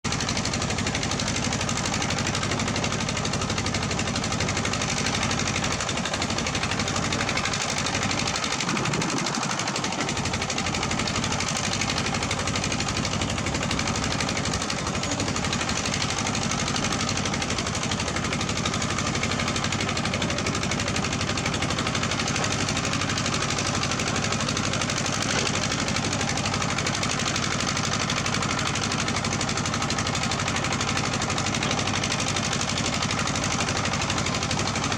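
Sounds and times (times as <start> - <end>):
diesel engine chugging: 0.1 - 34.9.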